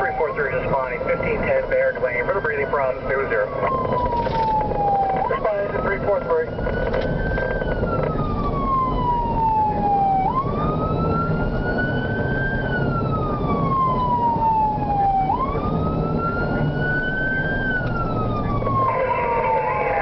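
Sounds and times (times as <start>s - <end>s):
emergency siren wailing: 0.0s - 20.0s
engine and road rumble: 0.0s - 20.0s.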